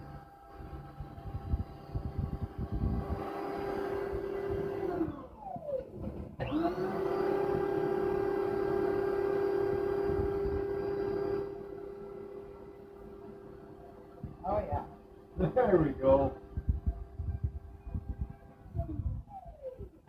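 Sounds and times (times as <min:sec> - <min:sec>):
drain cleaner motor spinning: 0:00.0 - 0:20.0.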